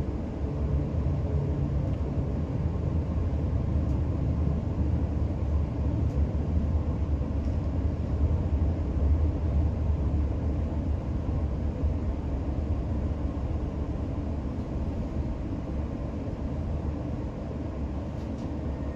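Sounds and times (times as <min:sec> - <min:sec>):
train rumbling inside carriage: 0:00.0 - 0:18.9.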